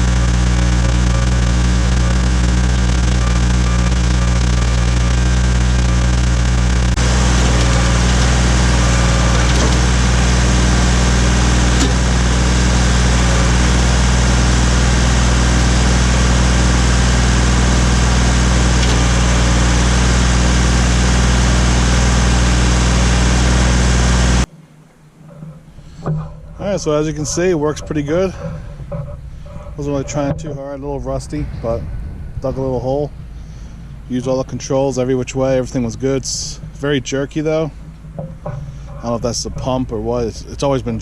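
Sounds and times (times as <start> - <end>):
backhoe hydraulics digging: 0.0 - 31.0, 33.3 - 41.0
tractor diesel engine running: 0.0 - 41.0.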